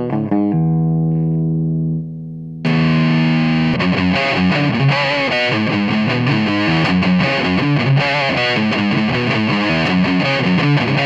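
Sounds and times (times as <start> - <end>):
distorted electric guitar: 0.0 - 11.0.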